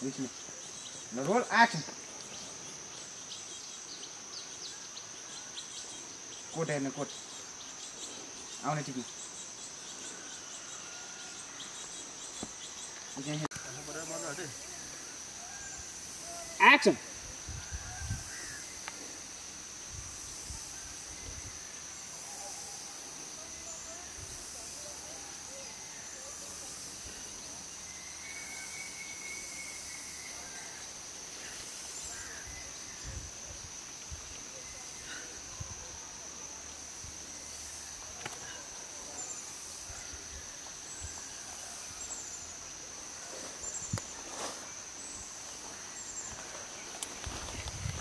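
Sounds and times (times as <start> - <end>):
insects droning: 0.0 - 48.0
rustles in undergrowth: 0.0 - 48.0.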